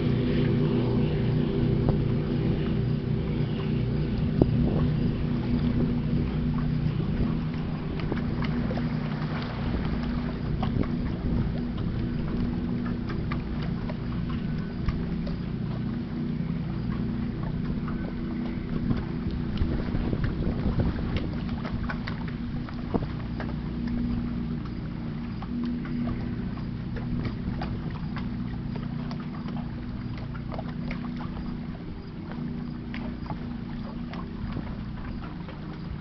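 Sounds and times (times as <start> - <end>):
ship engine droning: 0.0 - 36.0
wind buffeting microphone: 0.0 - 36.0.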